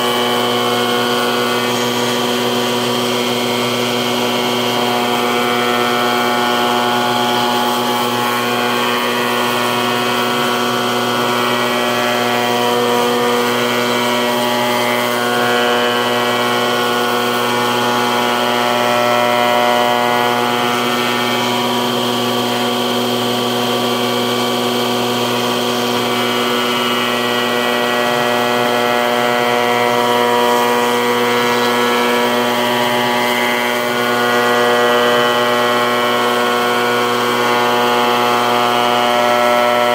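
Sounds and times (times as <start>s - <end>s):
molding machine drone: 0.0s - 39.9s.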